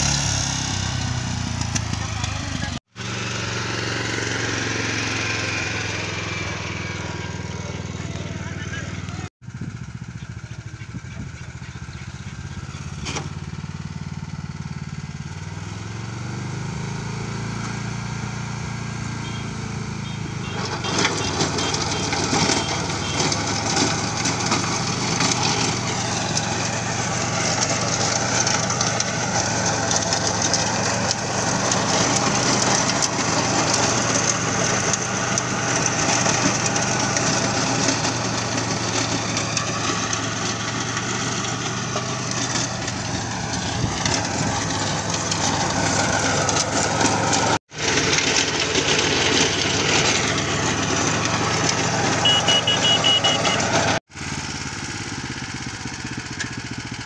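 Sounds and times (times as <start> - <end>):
rotary tiller churning soil: 0.0 - 57.0
tractor engine running: 0.0 - 57.0.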